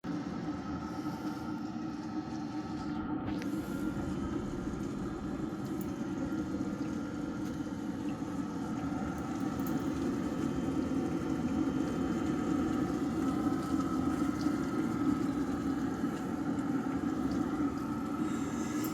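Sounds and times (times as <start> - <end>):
small pump running: 0.1 - 18.9.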